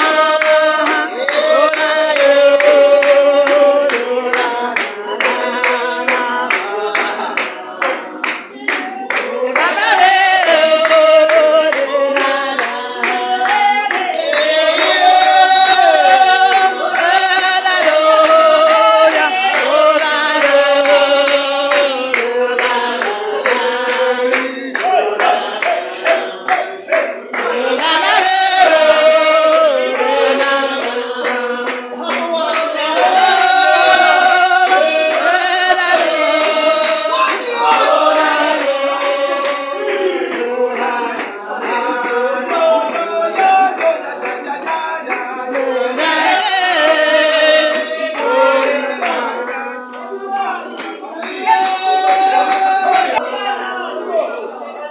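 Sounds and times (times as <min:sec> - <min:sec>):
hand clapping: 0:00.0 - 0:53.3
congregation singing a hymn: 0:00.0 - 0:54.9.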